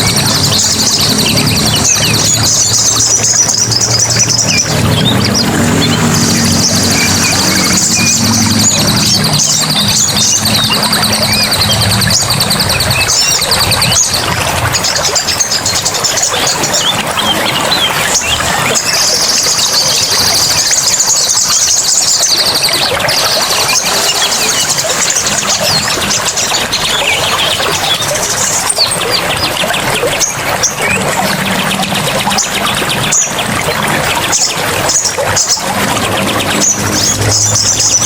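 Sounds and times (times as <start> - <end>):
forest birds chirping and trilling: 0.0 - 38.0
running water: 0.0 - 38.0.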